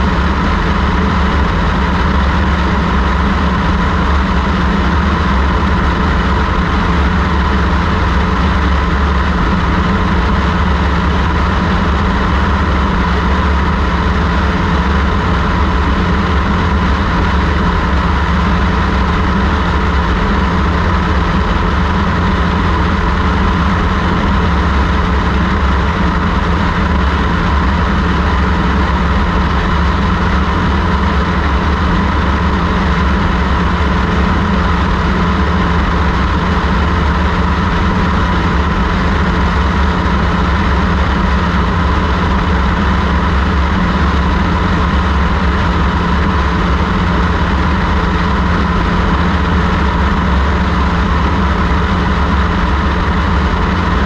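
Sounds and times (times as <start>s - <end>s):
light aircraft engine and propeller drone: 0.0s - 54.0s.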